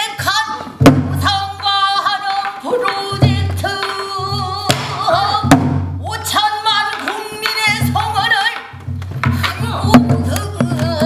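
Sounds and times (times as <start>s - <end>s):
woman singing with gliding pitch: 0.0s - 11.0s.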